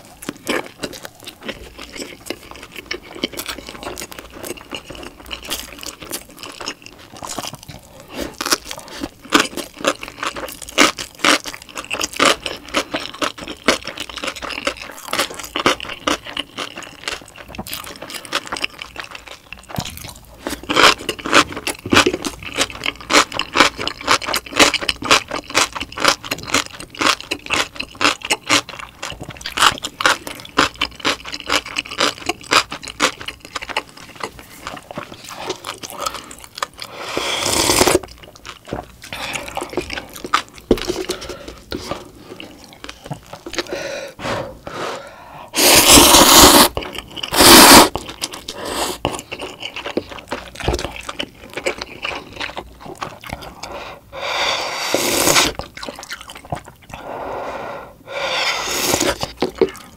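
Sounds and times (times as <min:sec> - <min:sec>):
wet chewing mouth sounds: 0:00.0 - 0:44.2, 0:45.5 - 0:57.1, 0:58.1 - 0:59.9.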